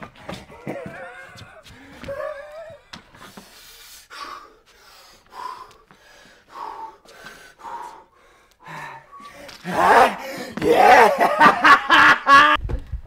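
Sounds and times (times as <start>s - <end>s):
man breathing heavily: 0.0s - 10.7s.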